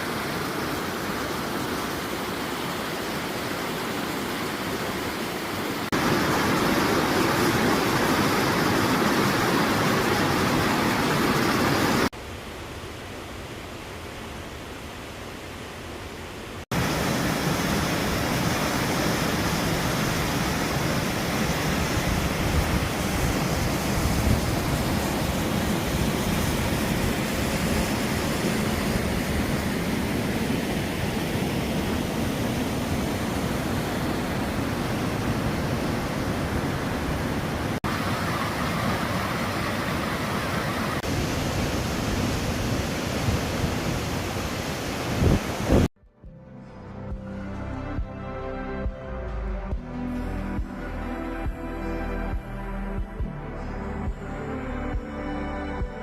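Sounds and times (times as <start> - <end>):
waterfall roaring: 0.0 - 12.1, 12.7 - 45.9.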